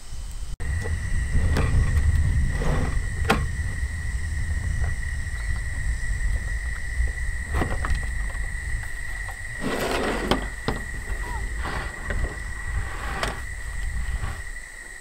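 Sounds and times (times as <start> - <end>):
thin high whine: 0.0 - 15.0
wind rumble on microphone: 0.0 - 15.0.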